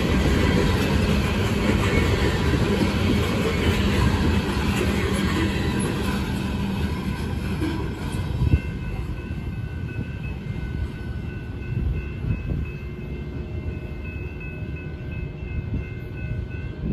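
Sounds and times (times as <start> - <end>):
freight train rumbling on track: 0.0 - 16.9.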